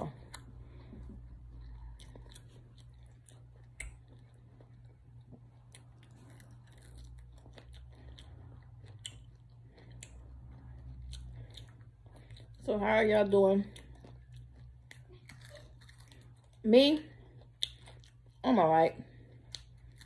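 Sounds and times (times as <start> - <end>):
person chewing chicken wings: 0.0 - 12.6, 13.7 - 16.6, 17.2 - 18.4, 19.1 - 20.0
low steady hum: 0.0 - 20.0.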